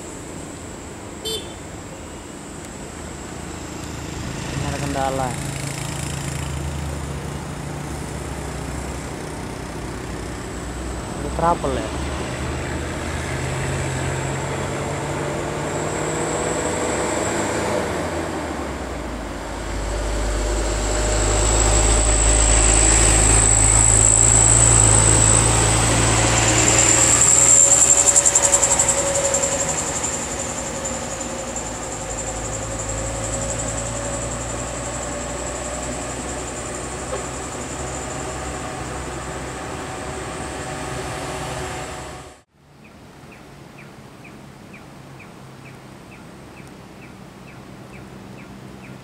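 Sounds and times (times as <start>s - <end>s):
steady engine hum: 0.0s - 49.0s
truck engine rumbling past: 2.8s - 42.5s.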